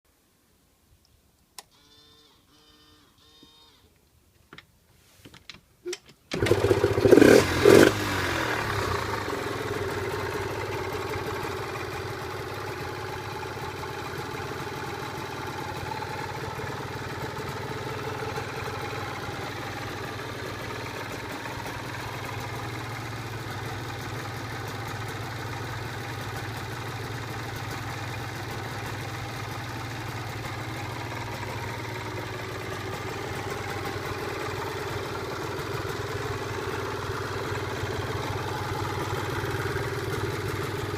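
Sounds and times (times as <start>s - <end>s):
two-stroke engine revving and idling: 6.3s - 40.9s.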